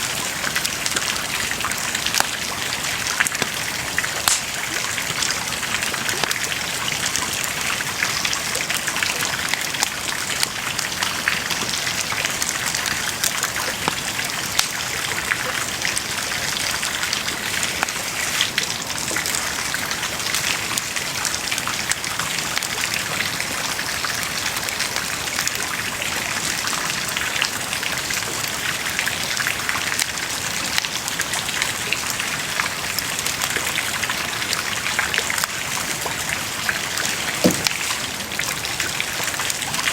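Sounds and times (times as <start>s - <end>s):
bonfire crackling and hissing: 0.0s - 39.9s.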